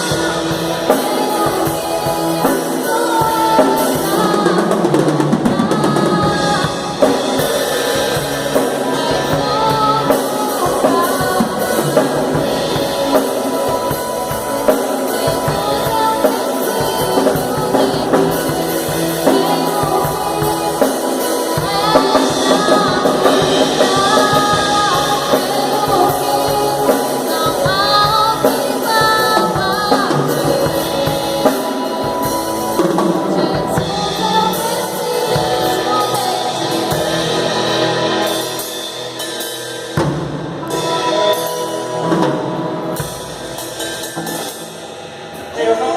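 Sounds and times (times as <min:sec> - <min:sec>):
woman singing: 0:00.0 - 0:38.6, 0:40.7 - 0:42.9
band playing: 0:00.0 - 0:45.9.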